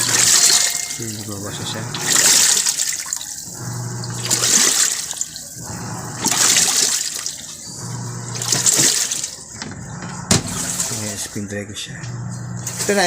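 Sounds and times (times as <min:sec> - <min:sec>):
washing machine agitator churning water: 0:00.0 - 0:13.0
washing machine low hum: 0:00.0 - 0:13.0.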